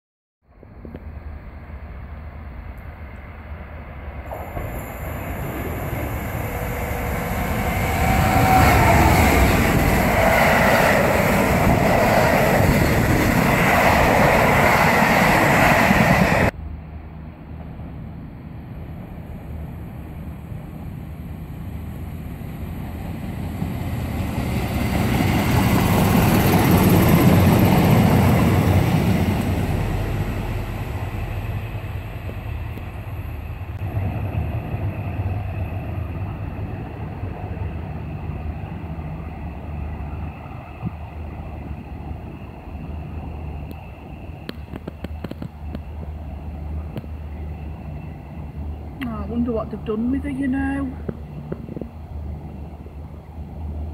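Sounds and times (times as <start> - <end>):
train passing: 0.5 - 53.9.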